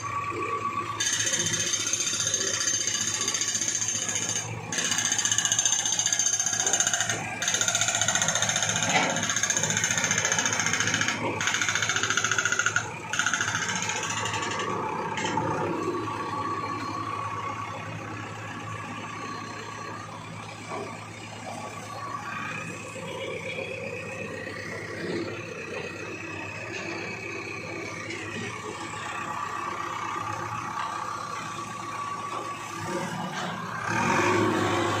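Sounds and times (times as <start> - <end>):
diesel engine running: 0.0 - 35.0
street noise: 0.0 - 35.0.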